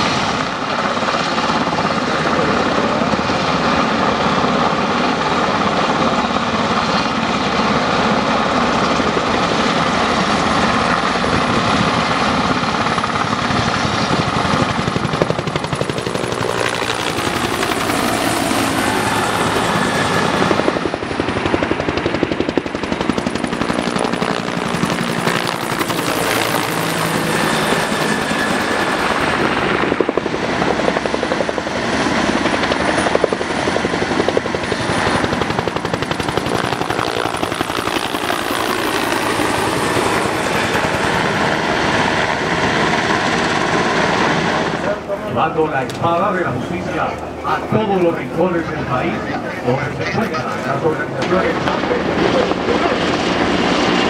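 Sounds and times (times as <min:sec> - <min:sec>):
helicopter rotor chop: 0:00.0 - 0:54.0.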